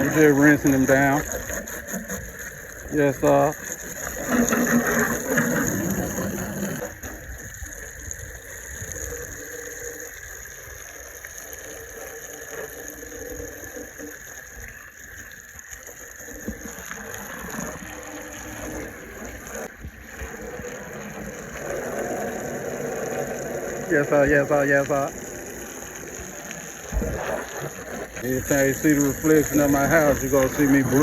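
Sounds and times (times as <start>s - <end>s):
water spray splattering on car: 0.0s - 12.9s, 13.9s - 31.0s.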